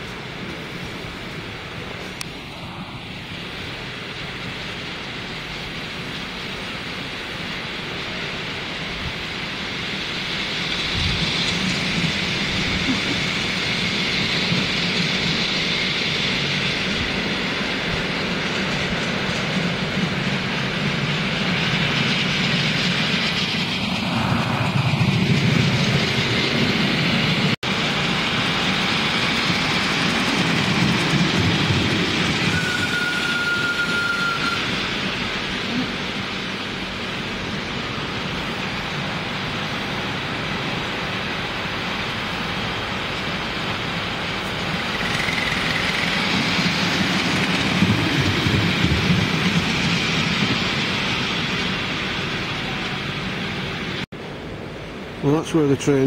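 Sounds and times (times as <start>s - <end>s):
steady steam hiss: 0.0s - 56.0s
miniature steam locomotive running: 3.4s - 54.0s.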